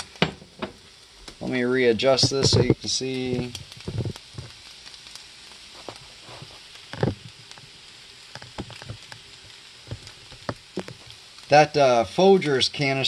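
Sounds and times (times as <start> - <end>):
eggs sizzling in skillet: 0.0 - 13.0.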